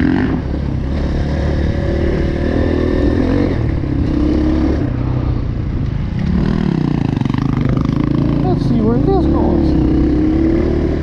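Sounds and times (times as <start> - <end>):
dirt bike engine revving: 0.0 - 5.0, 6.2 - 11.0.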